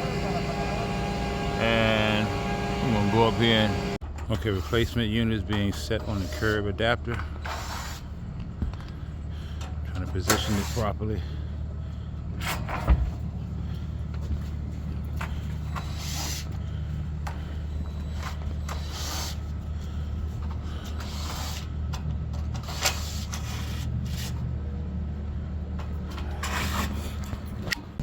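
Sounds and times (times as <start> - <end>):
heavy engine droning: 0.0 - 28.0.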